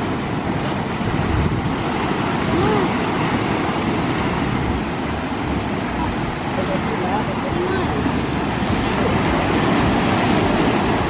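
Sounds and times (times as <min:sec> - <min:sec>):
surf washing over rocks: 0:00.0 - 0:11.0
wind rumbling on microphone: 0:00.0 - 0:11.0.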